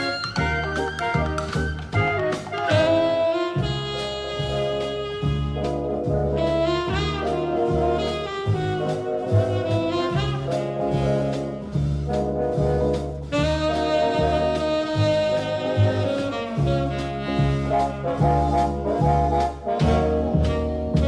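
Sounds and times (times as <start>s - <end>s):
jazz horns: 0.0s - 21.0s
walking bass line: 0.0s - 21.0s.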